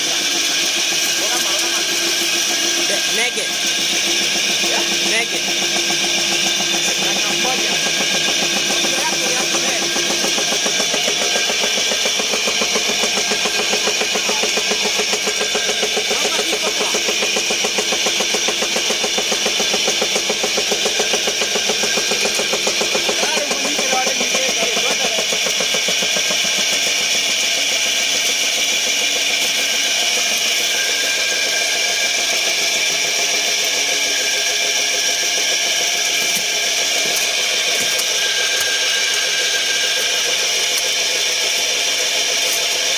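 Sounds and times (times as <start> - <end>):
electric motor machine humming: 0.0 - 42.9.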